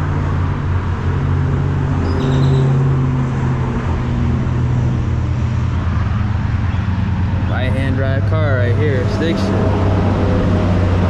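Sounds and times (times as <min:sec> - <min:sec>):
road traffic engine drone: 0:00.0 - 0:11.0.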